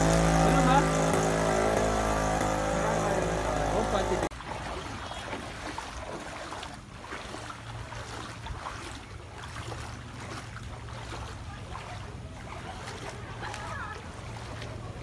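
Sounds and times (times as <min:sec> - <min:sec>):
feet wading through water: 0:00.0 - 0:15.0.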